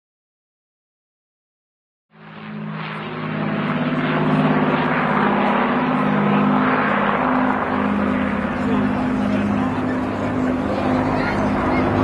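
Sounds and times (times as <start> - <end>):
propeller plane engines flying overhead: 2.1 - 12.0.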